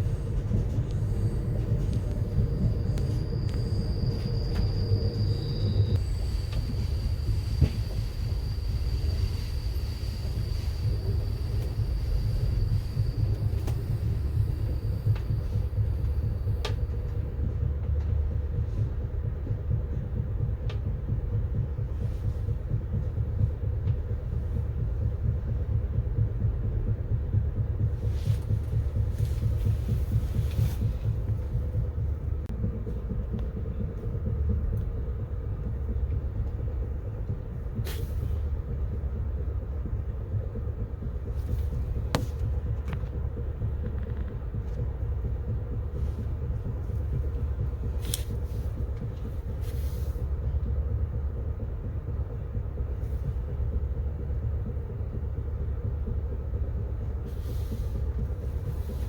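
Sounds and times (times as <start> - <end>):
train rumbling along track: 0.0 - 59.0.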